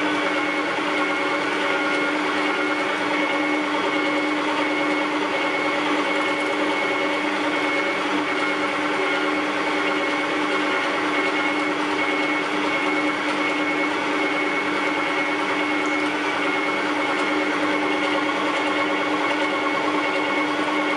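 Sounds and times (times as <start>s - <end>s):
electric meat grinder whining: 0.0s - 20.9s.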